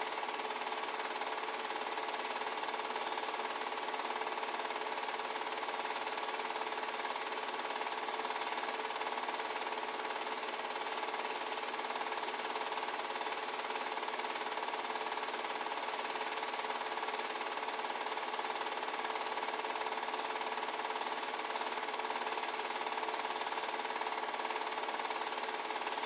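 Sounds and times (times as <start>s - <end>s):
film projector clattering: 0.0s - 26.0s.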